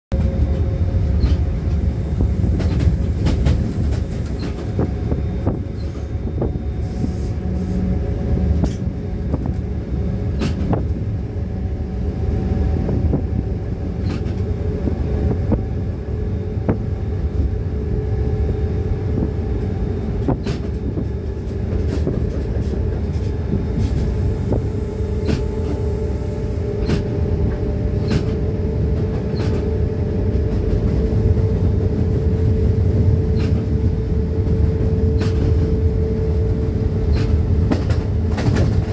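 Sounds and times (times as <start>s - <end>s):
low rumble of moving train: 0.0s - 38.9s.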